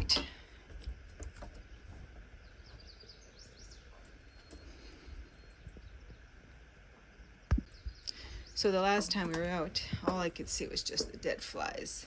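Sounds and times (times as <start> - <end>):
faint birdsong chirps: 1.2 - 12.0.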